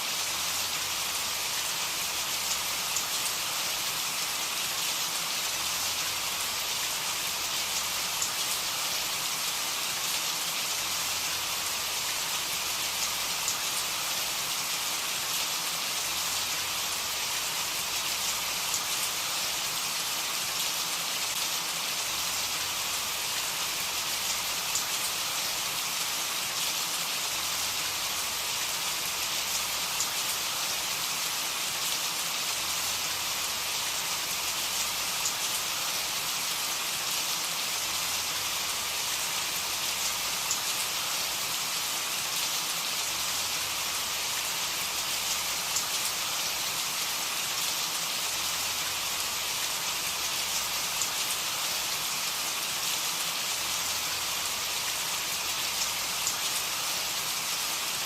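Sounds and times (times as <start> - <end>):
rain on a surface: 0.0 - 58.0.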